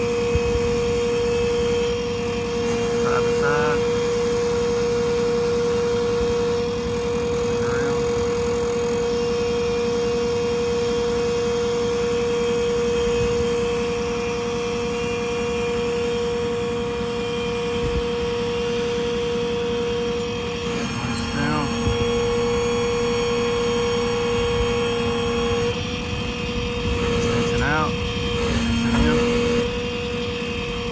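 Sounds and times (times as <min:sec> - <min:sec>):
diesel engine low rumble: 0:00.0 - 0:30.9
hydraulic system high whine: 0:00.0 - 0:30.9.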